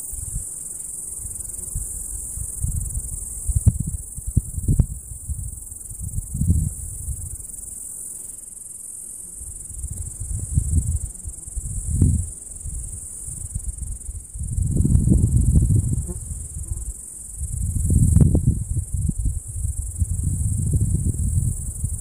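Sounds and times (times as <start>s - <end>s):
cicadas singing: 0.0s - 22.0s
wind buffeting microphone: 1.2s - 7.5s, 9.6s - 22.0s.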